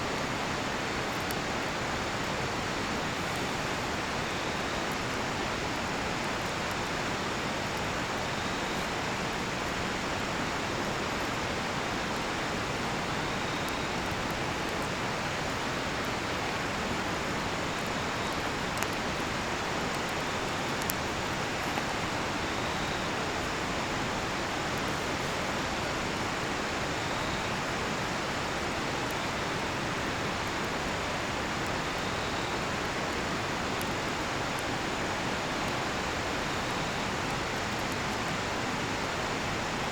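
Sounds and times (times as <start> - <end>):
campfire crackling and popping: 0.0 - 39.9
crickets chirping: 0.2 - 39.9.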